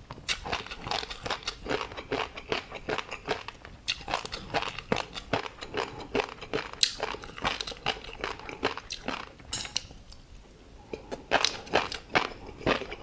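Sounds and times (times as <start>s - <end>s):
crunchy chewing: 0.3s - 9.9s, 10.9s - 13.0s.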